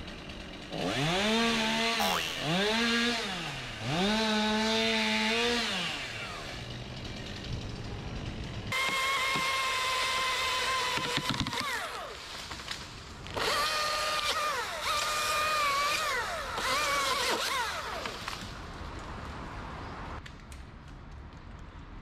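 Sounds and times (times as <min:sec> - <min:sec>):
chainsaw cutting through limb: 0:00.0 - 0:18.6.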